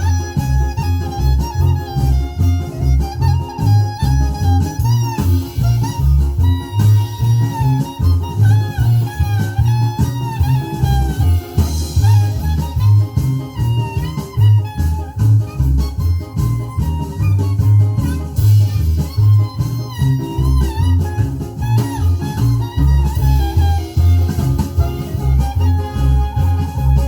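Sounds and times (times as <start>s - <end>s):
pulsing bass line: 0.0s - 27.0s.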